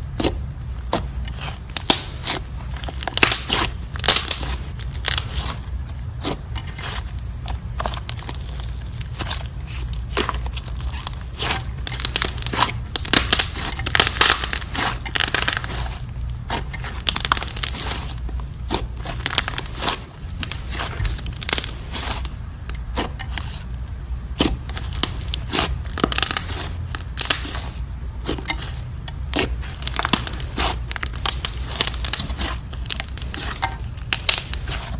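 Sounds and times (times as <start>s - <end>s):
slime crackling and popping: 0.0s - 34.9s
steady low hum: 0.0s - 34.9s.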